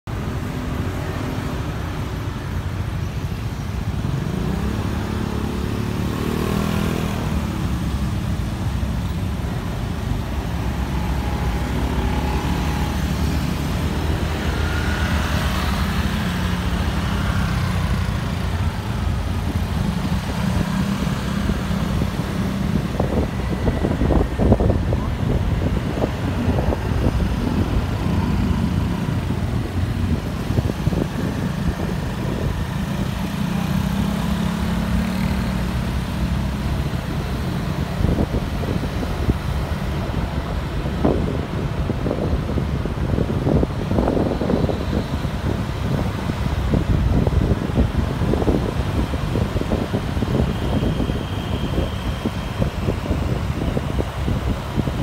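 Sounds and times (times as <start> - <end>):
scooter and car engines: 0.1 - 55.0.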